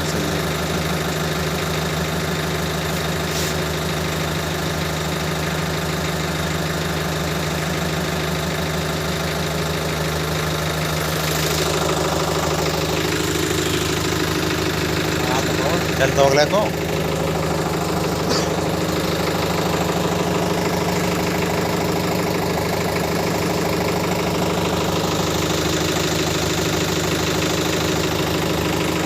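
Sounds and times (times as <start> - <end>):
tractor diesel engine idling: 0.0 - 29.0.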